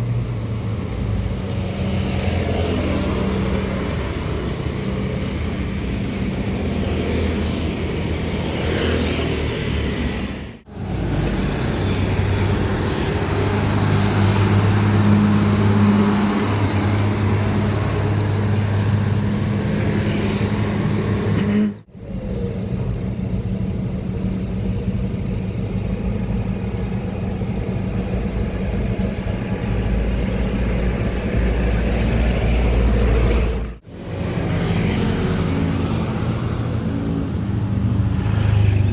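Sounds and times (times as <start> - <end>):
diesel truck engines running: 0.0 - 38.9
traffic noise: 0.0 - 38.9.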